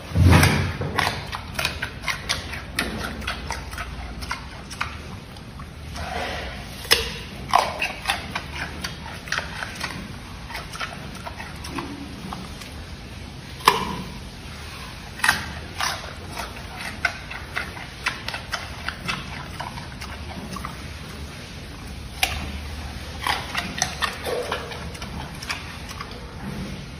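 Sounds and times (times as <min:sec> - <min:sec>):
animal crunching and chewing: 0:00.0 - 0:26.9.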